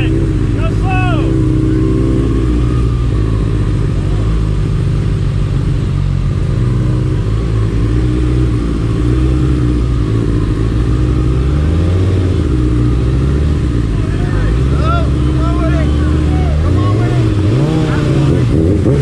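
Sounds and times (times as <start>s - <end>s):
motorcycle engine running at low revs: 0.0s - 19.0s.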